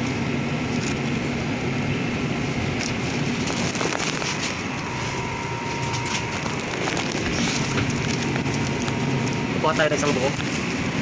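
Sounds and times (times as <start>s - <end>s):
refrigerated display case humming: 0.0s - 11.0s.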